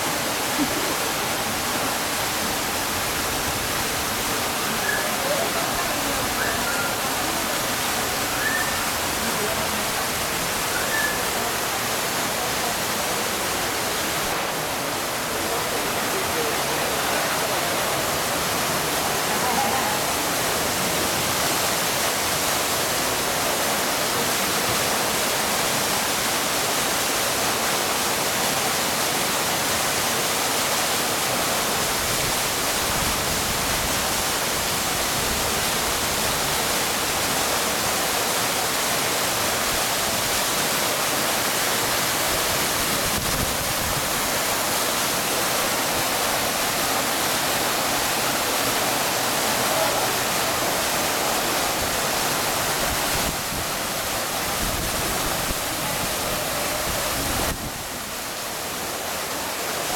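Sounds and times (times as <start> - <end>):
waterfall pouring into pool: 0.0 - 59.9.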